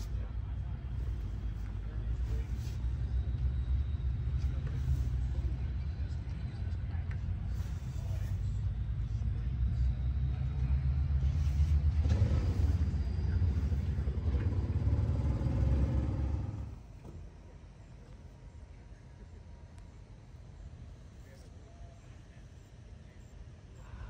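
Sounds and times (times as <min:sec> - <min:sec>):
diesel engine idling: 0:00.0 - 0:22.6.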